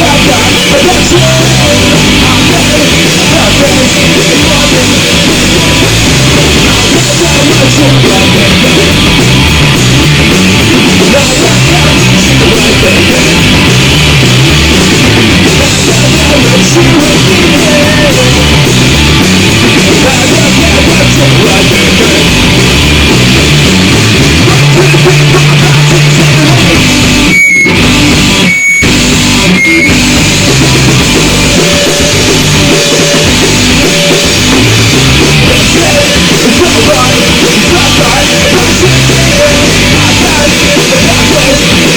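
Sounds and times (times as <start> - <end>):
rock band playing loud: 0.0 - 41.9.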